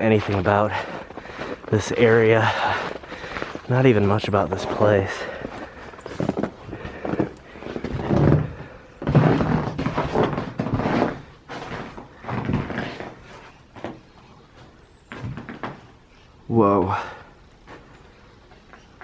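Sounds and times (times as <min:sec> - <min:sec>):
footsteps crunching through snow: 0:00.0 - 0:15.8.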